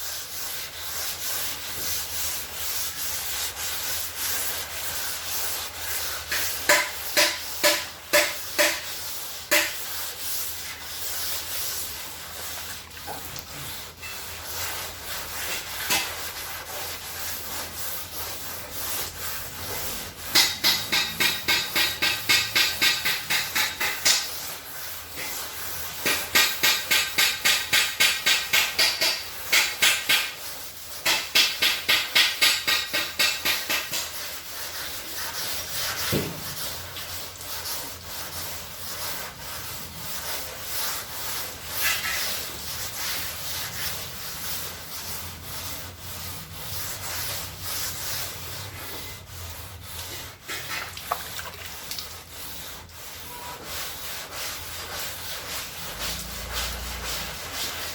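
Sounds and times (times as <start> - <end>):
sandpaper sanding metal panel: 0.0 - 57.9.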